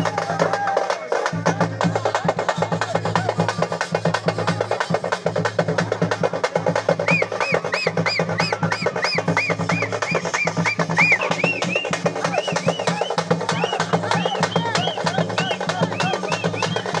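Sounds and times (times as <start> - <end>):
procession drums beating: 0.0 - 17.0.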